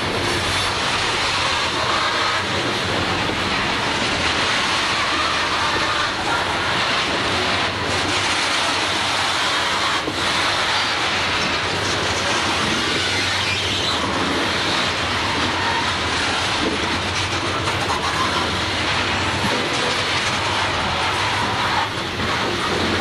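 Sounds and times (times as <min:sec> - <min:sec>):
steel wheels rumbling on rails: 0:00.0 - 0:23.0.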